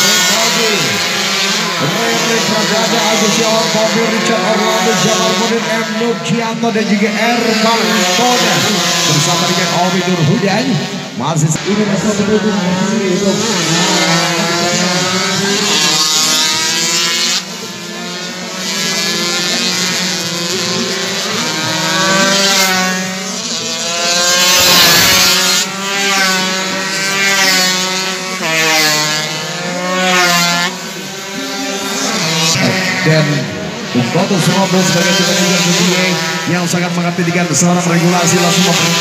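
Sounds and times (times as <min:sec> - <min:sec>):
race motorcycles passing: 0:00.0 - 0:39.0.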